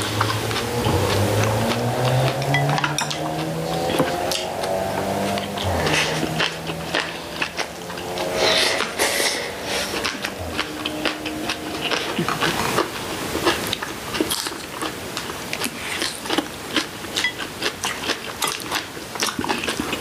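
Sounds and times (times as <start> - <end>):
chewing and crunching greens: 0.0 - 8.3, 10.0 - 20.0.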